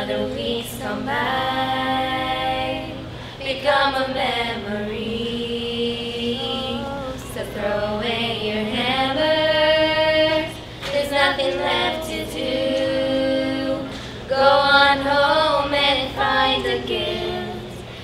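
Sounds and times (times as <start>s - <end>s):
women and girls singing a cappella: 0.0s - 18.0s.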